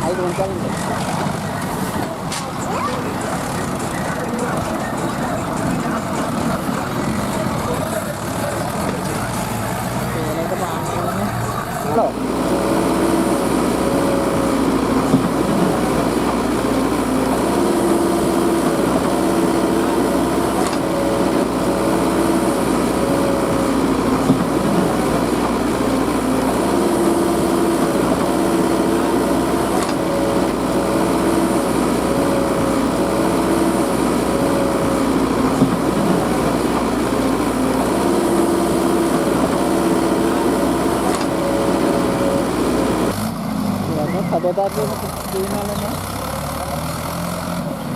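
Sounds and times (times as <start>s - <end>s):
steady tone: 0.0s - 43.3s
diesel engines running: 0.0s - 47.9s.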